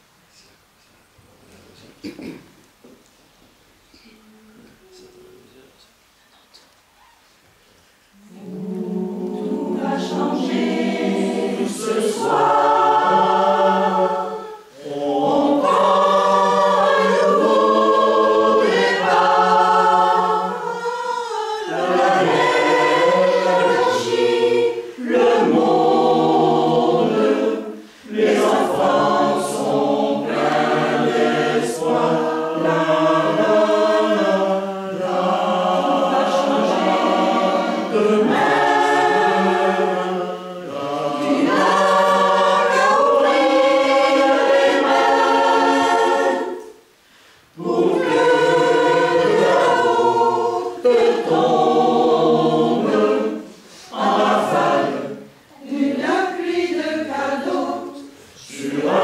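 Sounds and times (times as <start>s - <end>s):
mixed choir singing: 8.1s - 59.0s.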